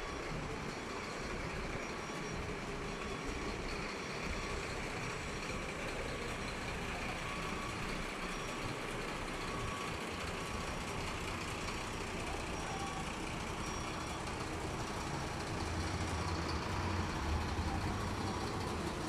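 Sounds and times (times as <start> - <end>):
fire engines idling: 0.0 - 19.0.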